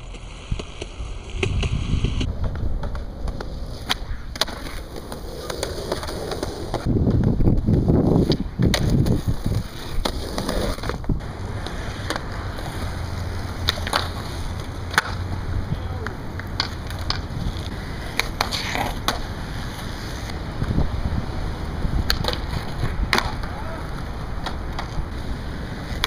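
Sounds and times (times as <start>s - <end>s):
skateboard clacks: 0.0s - 26.0s
skateboard wheels rolling on concrete: 0.0s - 26.0s.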